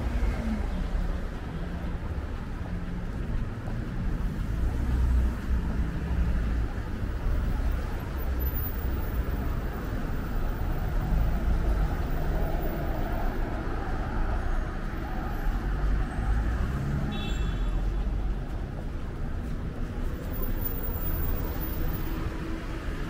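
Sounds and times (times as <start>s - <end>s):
cars passing: 0.0s - 23.0s.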